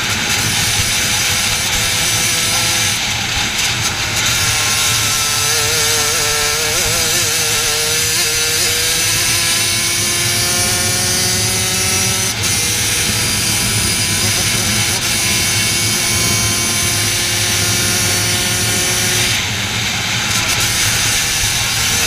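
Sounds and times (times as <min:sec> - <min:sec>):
racing kart engine: 0:00.0 - 0:22.0.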